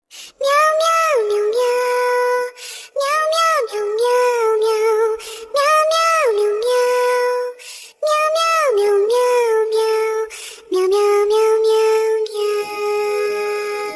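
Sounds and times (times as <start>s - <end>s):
high childlike singing voice: 0.3s - 13.9s.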